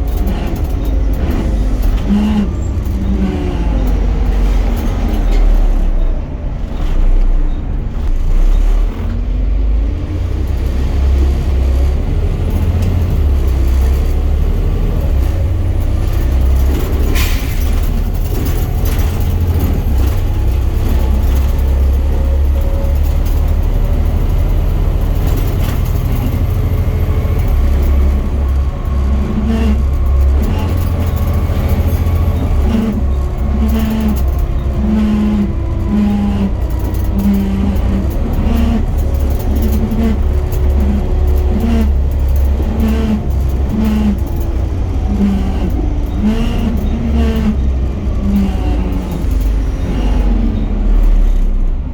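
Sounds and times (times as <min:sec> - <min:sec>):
bus drivetrain rumble: 0:00.0 - 0:51.9
whining axle tones: 0:00.0 - 0:51.9.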